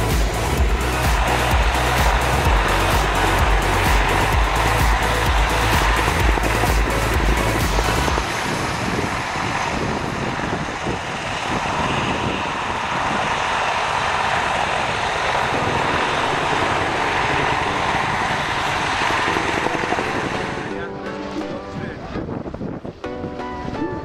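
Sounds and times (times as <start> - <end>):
helicopter in flight: 0.0 - 23.0.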